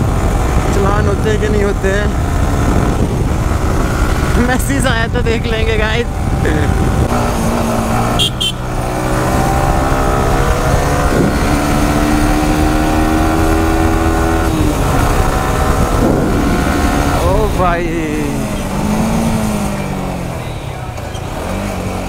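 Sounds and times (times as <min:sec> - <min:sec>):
wind rumble on microphone: 0:00.0 - 0:20.3
motorcycle engine running: 0:00.0 - 0:22.0.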